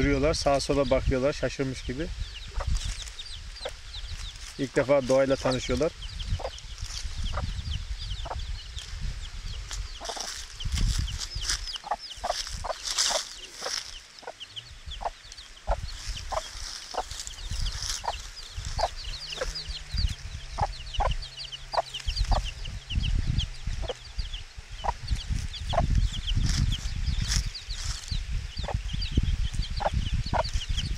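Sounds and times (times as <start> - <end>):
chicks peeping: 0.0 - 30.9
hen clucking: 2.4 - 8.6, 9.8 - 26.7, 28.6 - 30.9.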